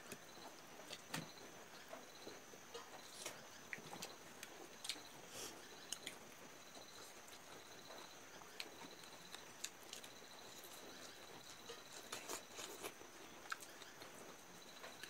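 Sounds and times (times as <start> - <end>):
faint chewing: 0.1 - 15.0.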